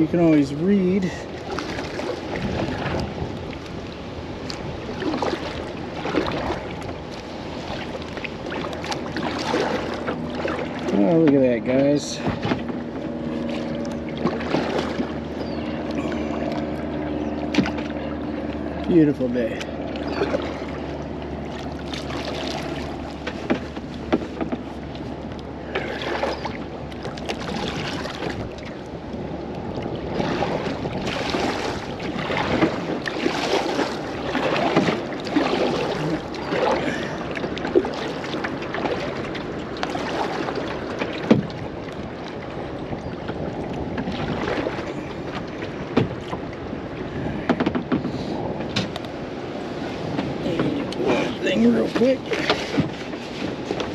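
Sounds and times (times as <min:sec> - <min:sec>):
kayak paddle splashing through water: 0:00.0 - 0:11.5, 0:12.1 - 0:53.9.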